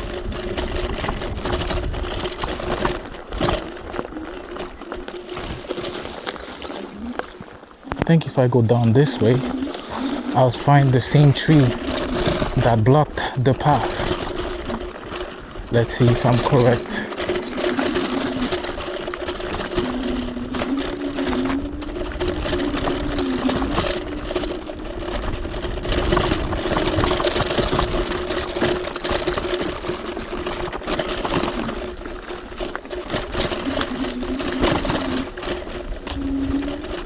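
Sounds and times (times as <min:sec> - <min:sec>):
rattles and knocks from bumps: 0:00.0 - 0:37.0
tyres rumbling on dirt: 0:00.0 - 0:37.0.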